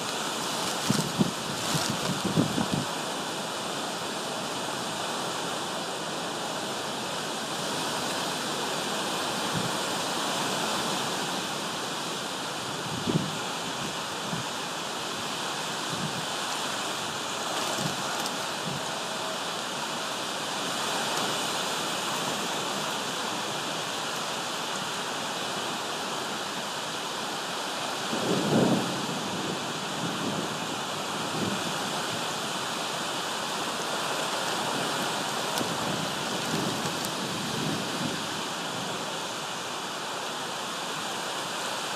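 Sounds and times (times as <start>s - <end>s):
rain hissing: 0.0s - 41.9s
wind: 0.0s - 41.9s.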